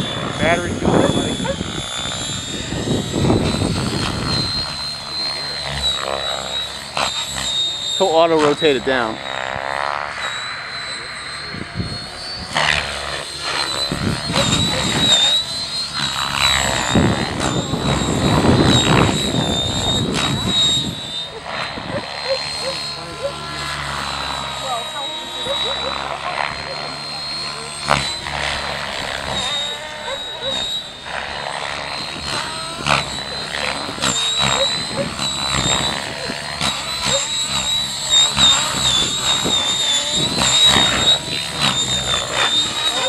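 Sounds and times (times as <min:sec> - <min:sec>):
model helicopter whine: 0:00.0 - 0:43.0.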